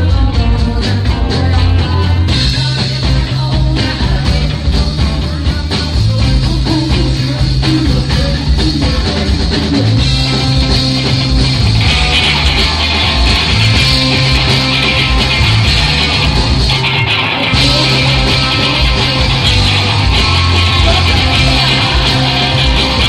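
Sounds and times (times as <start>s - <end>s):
rock band playing loudly: 0.0s - 23.0s.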